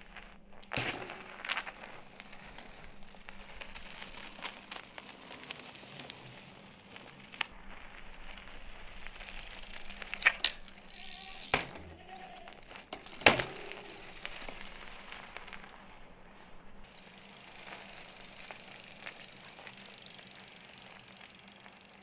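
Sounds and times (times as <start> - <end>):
bike tyres crackling on ice: 0.0 - 22.0.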